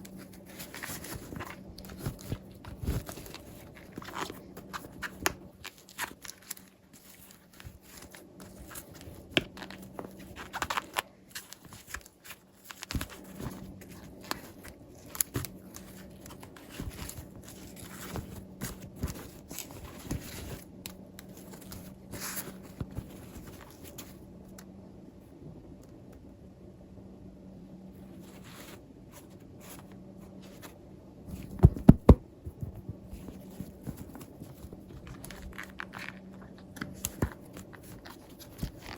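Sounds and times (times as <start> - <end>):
plastic packaging rustling: 0.0 - 24.2, 28.1 - 38.9
faint steady hum: 0.0 - 38.9.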